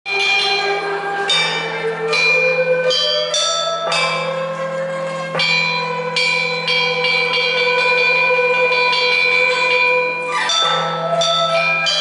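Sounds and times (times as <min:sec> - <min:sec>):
tuned bells slow melody: 0:00.1 - 0:12.0.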